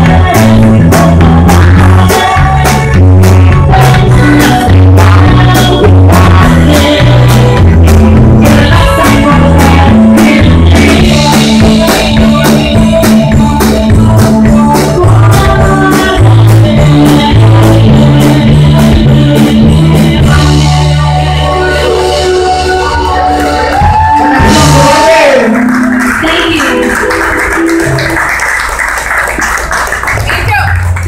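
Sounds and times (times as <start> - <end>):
drums and cymbals beat: 0.0 - 21.0, 23.7 - 28.2
electric bass guitar line: 0.0 - 31.0.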